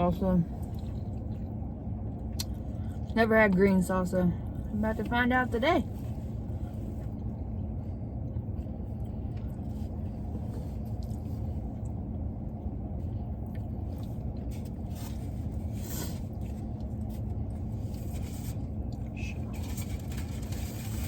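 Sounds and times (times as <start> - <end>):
low rumble and hum: 0.0 - 21.0.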